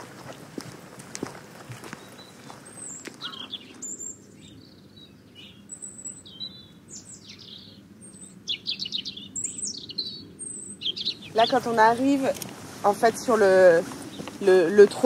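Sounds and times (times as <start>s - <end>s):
low outdoor background: 0.0s - 15.0s
small birds chirping and whistling: 1.8s - 15.0s.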